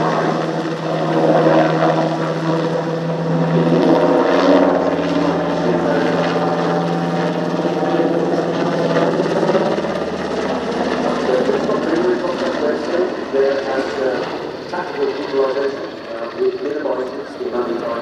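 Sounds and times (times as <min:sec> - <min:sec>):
helicopter rotor and turbine drone: 0:00.0 - 0:18.0.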